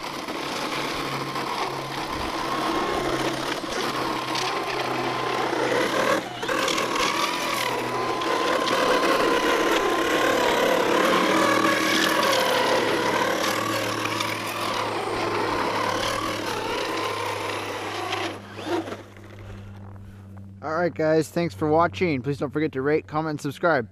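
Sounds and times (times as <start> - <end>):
toy truck electric motor whining: 0.0 - 19.6.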